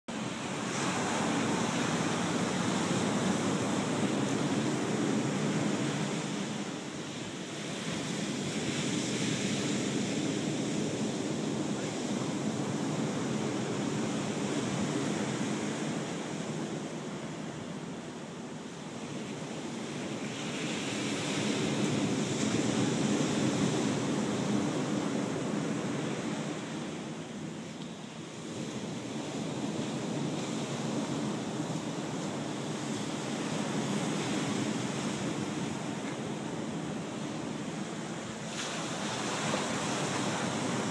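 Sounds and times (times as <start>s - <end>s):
ocean surf washing onto beach: 0.1s - 40.9s.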